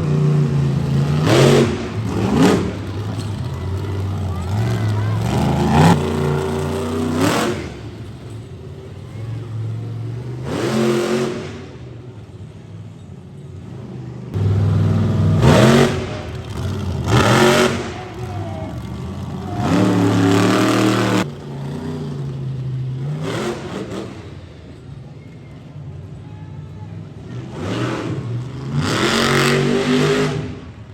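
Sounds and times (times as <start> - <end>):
monster truck engine revving: 0.0 - 12.6, 13.6 - 25.0, 27.0 - 30.9.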